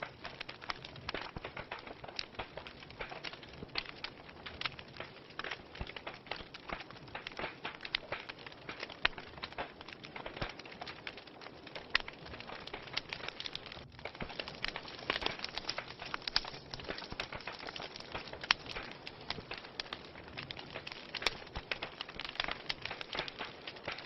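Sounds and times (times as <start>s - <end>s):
fire pops and snaps: 0.0s - 24.0s
soft fire hiss: 0.0s - 24.0s
wood fire crackling: 0.0s - 24.0s.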